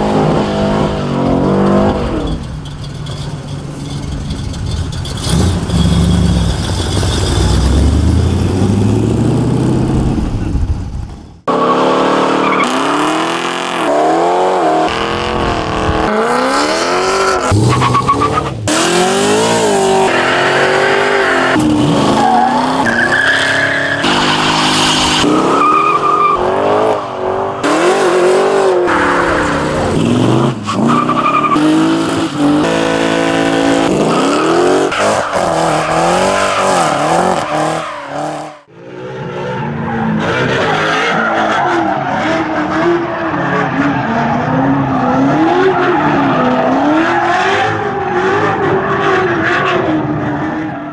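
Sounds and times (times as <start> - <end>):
car engines revving high: 4.0 - 50.9.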